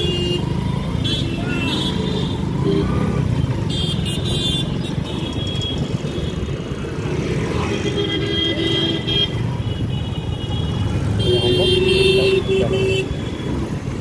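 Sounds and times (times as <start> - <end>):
vehicle horns: 0.0 - 5.6, 7.7 - 13.6
engine and road rumble: 0.0 - 14.0.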